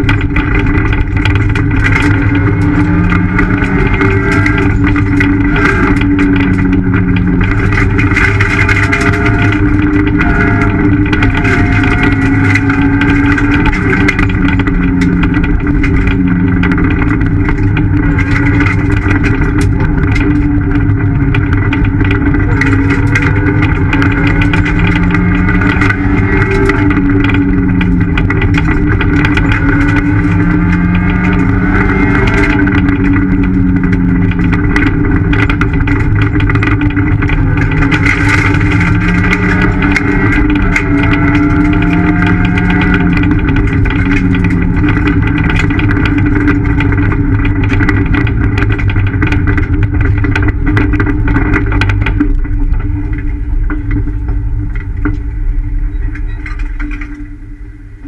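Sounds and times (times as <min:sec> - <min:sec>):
car engine revving: 0:00.0 - 0:58.0
road noise: 0:00.0 - 0:58.0
sharp clicks and rattles: 0:00.0 - 0:58.0.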